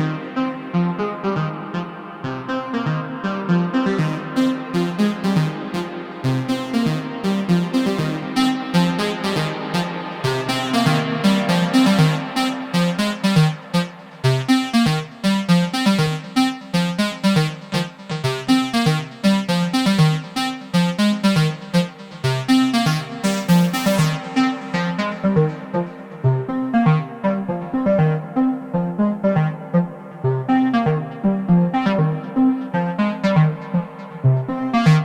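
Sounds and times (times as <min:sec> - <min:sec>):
synthesizer plucky sequenced notes: 0:00.0 - 0:35.0
synthesizer bass line: 0:03.9 - 0:35.0.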